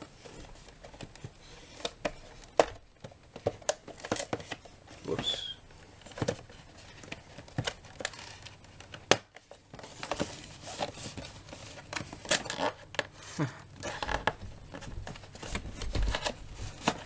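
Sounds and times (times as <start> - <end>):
packaging rustling and crinkling: 0.0 - 17.0.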